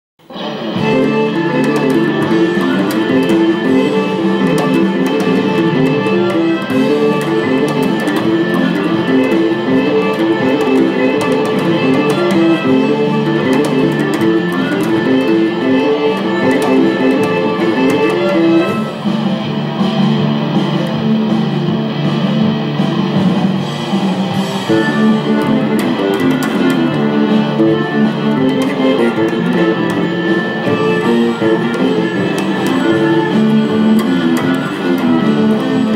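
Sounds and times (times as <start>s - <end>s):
electric bass riff: 0.2s - 35.9s
rock band with electric guitars: 0.2s - 35.9s.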